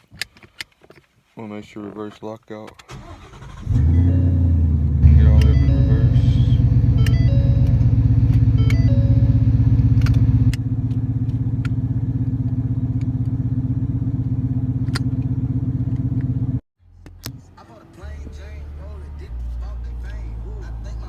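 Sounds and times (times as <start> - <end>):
car engine rumbling: 2.9 - 21.0.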